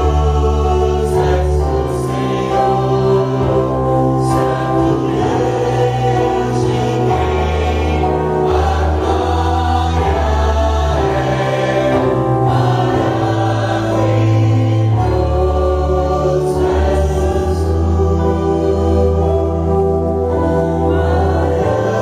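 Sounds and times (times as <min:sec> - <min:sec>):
congregation singing: 0:00.0 - 0:22.0
sustained low instrumental notes: 0:00.0 - 0:22.0.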